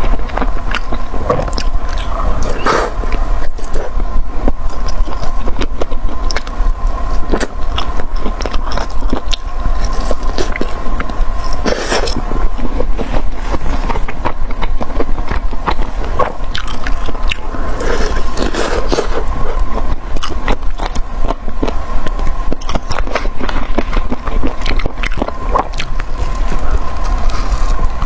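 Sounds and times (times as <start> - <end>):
chewing crispy food: 0.0 - 28.0.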